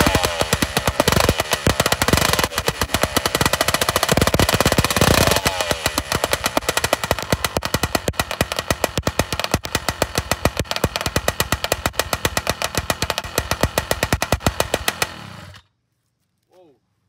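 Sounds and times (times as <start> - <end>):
two-stroke engine revving: 0.0 - 15.6.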